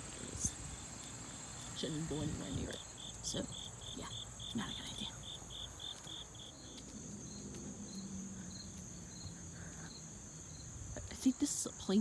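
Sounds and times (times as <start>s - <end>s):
cricket chirps: 0.0s - 12.0s.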